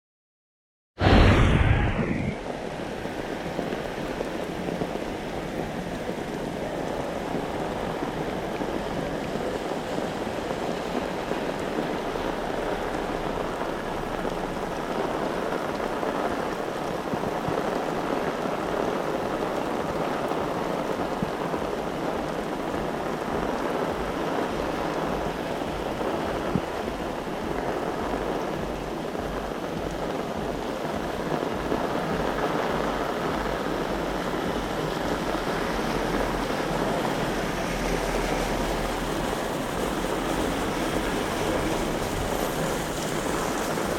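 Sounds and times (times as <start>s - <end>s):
wind buffeting microphone: 1.0s - 43.9s
heavy rain splashing on street: 2.4s - 43.9s.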